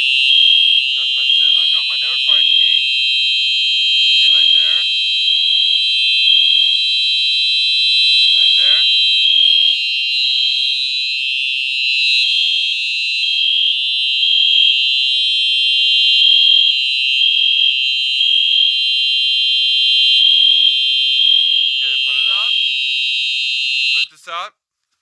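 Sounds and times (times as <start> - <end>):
fire alarm horn: 0.0 - 24.1.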